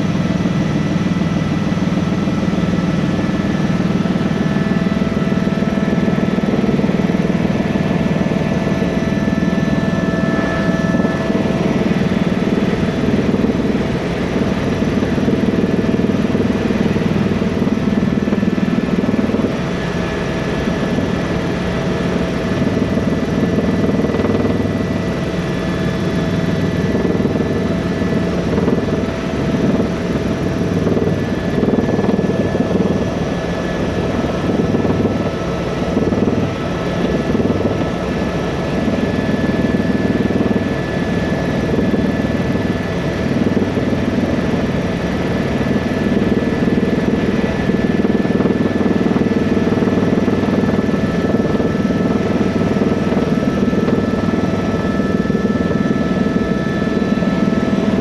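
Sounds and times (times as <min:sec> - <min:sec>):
faint steady whines: 0:00.0 - 0:58.0
helicopter rotor and turbine: 0:00.0 - 0:58.0.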